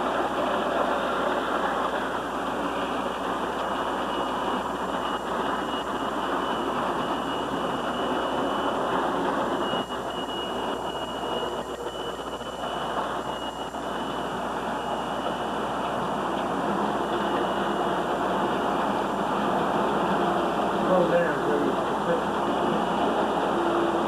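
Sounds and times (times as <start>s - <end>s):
model train rolling rumble: 0.0s - 24.0s.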